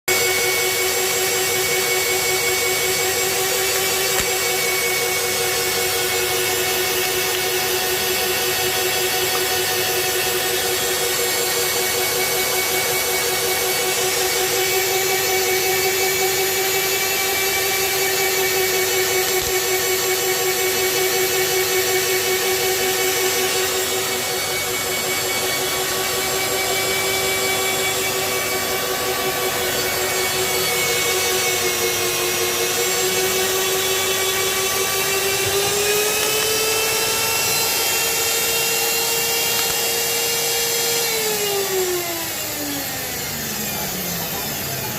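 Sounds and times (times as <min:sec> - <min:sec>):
drill motor whining: 0:00.1 - 0:44.9.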